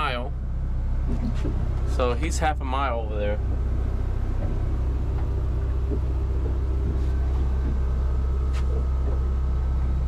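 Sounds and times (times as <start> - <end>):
boat low rumble: 0.0 - 10.0.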